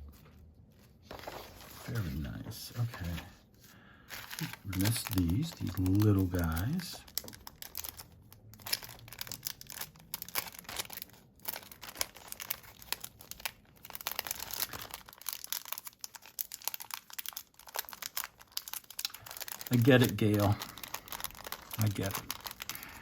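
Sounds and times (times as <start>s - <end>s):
packaging crinkling: 1.0s - 23.0s.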